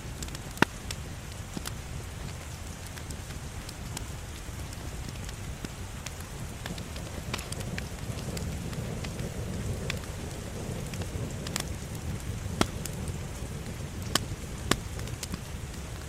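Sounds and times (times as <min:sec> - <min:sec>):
fire burning rush: 0:00.0 - 0:16.0
fire pops: 0:00.1 - 0:16.0.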